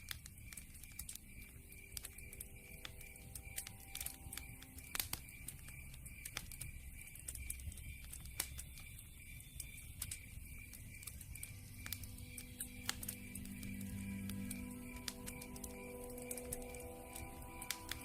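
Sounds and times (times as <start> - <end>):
campfire crackling and popping: 0.0 - 18.0
low rumble of fire: 0.0 - 18.0.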